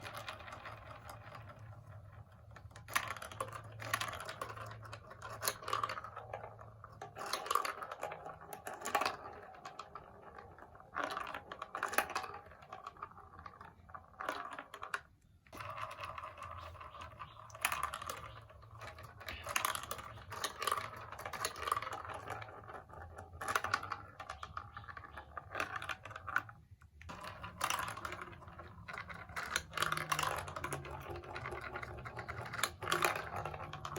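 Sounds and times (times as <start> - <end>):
plastic blocks clicking: 0.0 - 33.9
plastic blocks rattling: 0.0 - 33.9.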